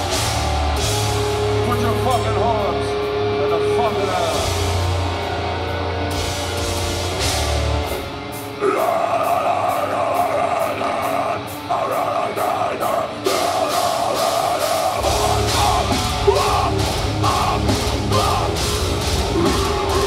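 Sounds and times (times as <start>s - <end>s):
distorted guitars: 0.0s - 20.0s
drum kit: 0.0s - 20.0s
metal band playing live: 0.0s - 20.0s.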